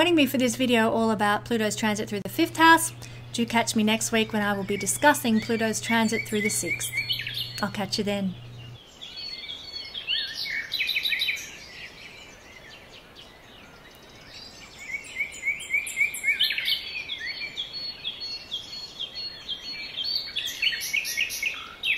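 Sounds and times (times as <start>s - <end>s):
small birds chirping: 0.4s - 21.9s.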